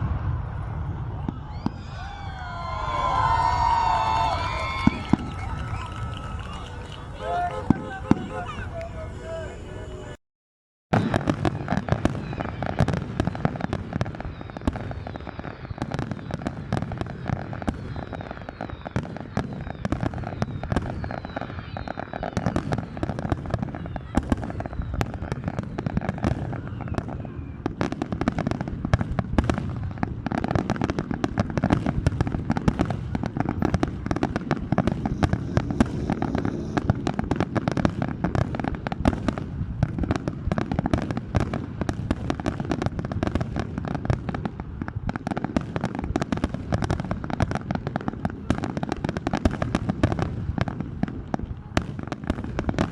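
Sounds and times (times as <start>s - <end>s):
fireworks bangs and crackling: 0.0s - 10.1s, 10.9s - 52.9s
faint fireworks whistling: 0.0s - 10.2s, 10.9s - 52.9s.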